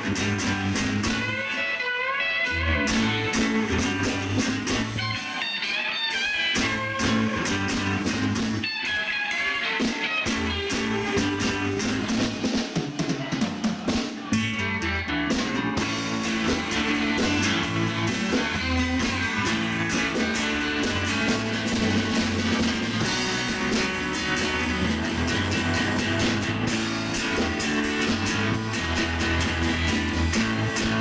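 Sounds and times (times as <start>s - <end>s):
bass guitar: 0.0s - 31.0s
drum kit beat: 0.0s - 31.0s
electric lead guitar: 0.0s - 31.0s.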